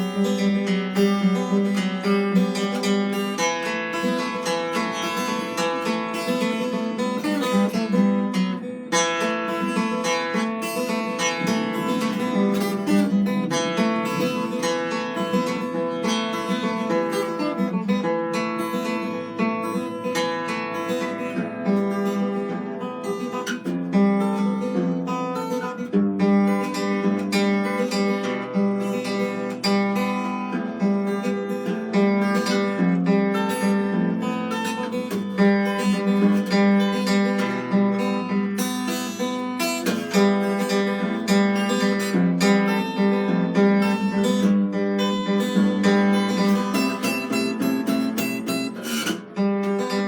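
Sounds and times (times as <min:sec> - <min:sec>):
acoustic guitar: 0:00.0 - 0:50.0.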